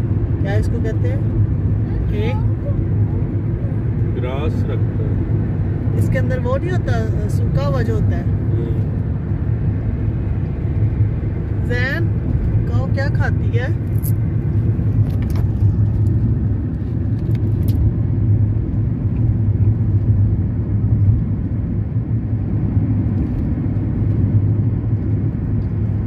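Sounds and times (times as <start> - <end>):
car road and engine hum: 0.0 - 26.0.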